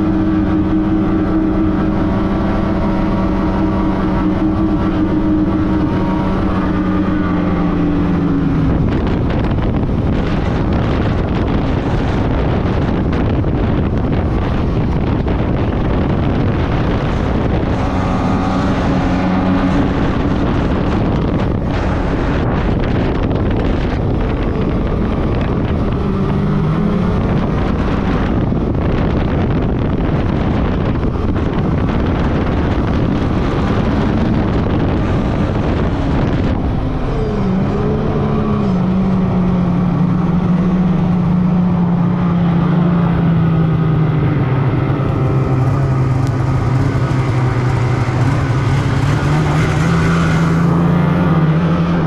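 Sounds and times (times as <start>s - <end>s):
snowmobile engine running: 0.0s - 52.0s
wind noise on microphone: 0.0s - 52.0s.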